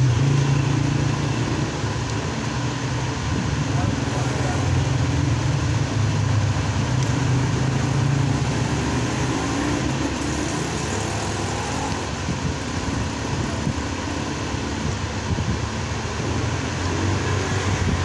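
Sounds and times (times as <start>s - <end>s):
engine rumbling: 0.0s - 18.0s.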